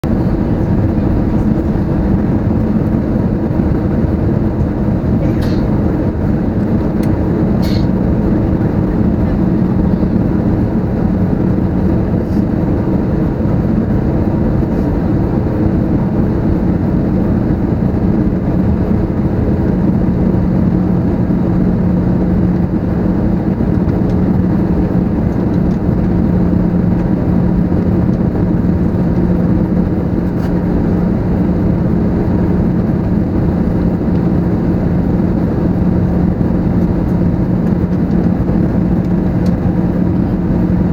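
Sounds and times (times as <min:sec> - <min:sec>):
airliner cabin engine drone: 0:00.0 - 0:40.9
steady low hum: 0:00.0 - 0:40.9.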